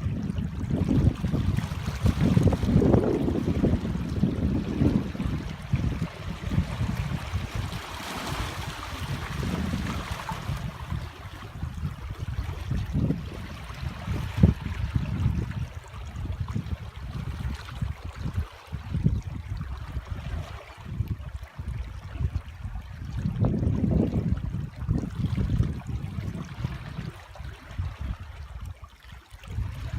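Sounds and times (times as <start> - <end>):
waves lapping at shore: 0.0 - 22.8, 25.1 - 29.9.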